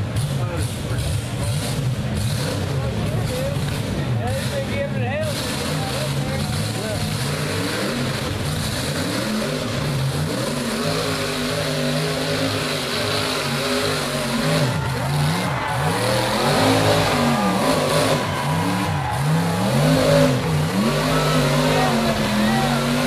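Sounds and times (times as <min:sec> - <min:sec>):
buggy engine revving under load: 0:00.0 - 0:23.0.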